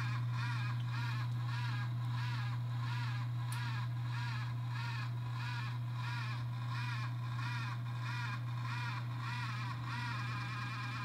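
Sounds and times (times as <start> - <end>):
low hum: 0.0 - 11.0
small fan grinding: 0.0 - 11.0.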